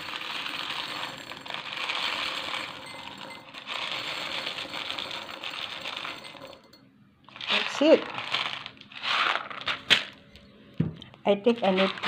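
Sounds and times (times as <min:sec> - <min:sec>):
pebbles pouring into glass vase: 0:00.0 - 0:06.7, 0:07.3 - 0:10.2, 0:11.6 - 0:12.0.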